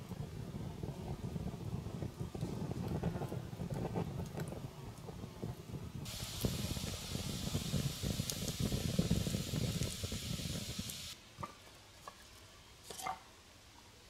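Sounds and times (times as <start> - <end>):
campfire crackling: 0.0 - 12.1.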